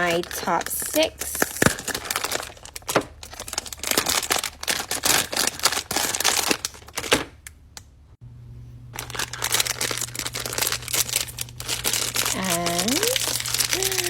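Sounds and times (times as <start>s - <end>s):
packaging crinkling and clicking: 0.0s - 7.6s, 9.0s - 14.0s.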